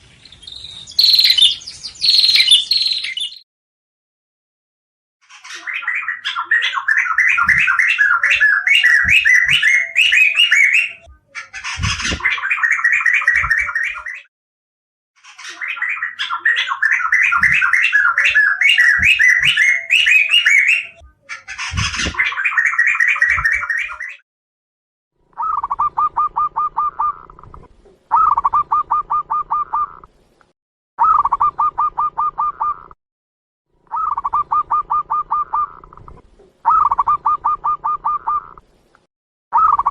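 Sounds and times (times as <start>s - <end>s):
bird song trills: 0.0s - 3.4s, 5.2s - 14.3s, 15.2s - 24.2s, 25.3s - 27.4s, 28.1s - 30.1s, 31.0s - 33.0s, 33.9s - 36.0s, 36.6s - 38.6s, 39.5s - 39.9s.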